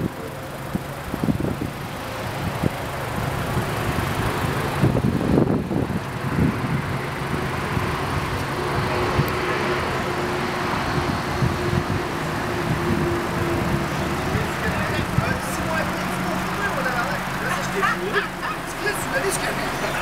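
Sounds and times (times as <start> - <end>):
wind buffeting microphone: 0.0 - 16.6.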